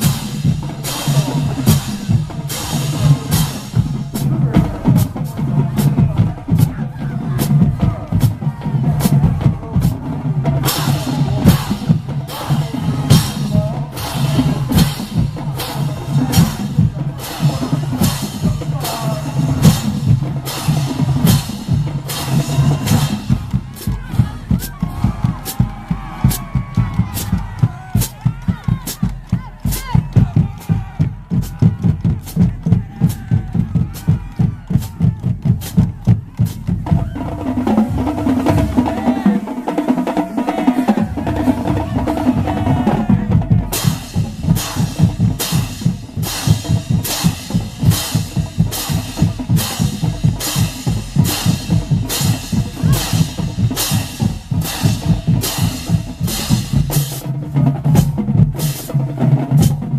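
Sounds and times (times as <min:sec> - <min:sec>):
drumline playing bass and snare: 0:00.0 - 0:59.9.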